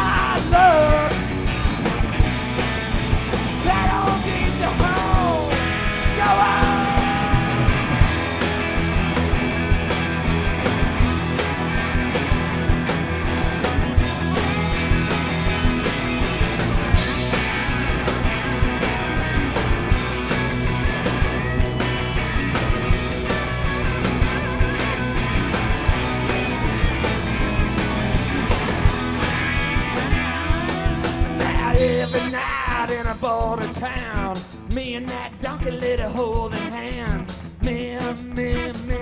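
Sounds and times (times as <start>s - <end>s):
rock band playing live: 0.0s - 39.0s
steady drum beat: 0.0s - 39.0s.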